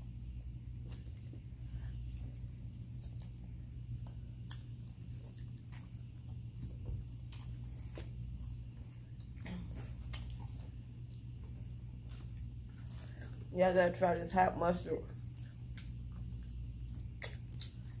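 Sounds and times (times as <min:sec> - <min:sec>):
low steady hum: 0:00.0 - 0:18.0
crunchy biting and chewing: 0:00.6 - 0:13.5, 0:15.1 - 0:18.0.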